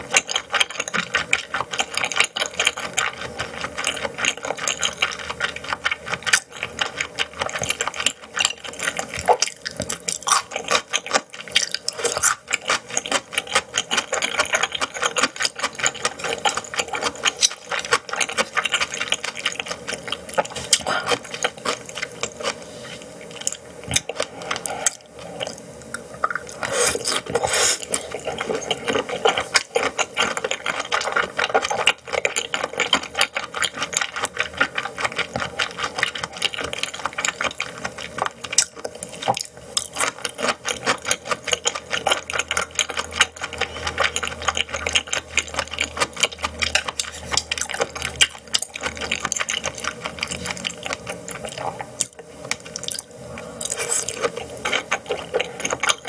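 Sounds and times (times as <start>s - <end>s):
wet chewing clicks and smacks: 0.1s - 22.6s, 24.9s - 56.0s.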